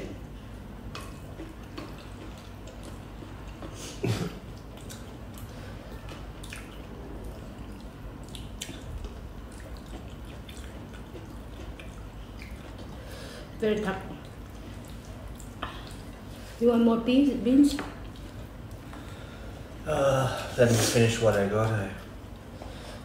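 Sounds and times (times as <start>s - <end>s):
low steady hum: 0.0s - 23.0s
wet chewing sounds: 0.2s - 16.6s, 17.2s - 19.8s.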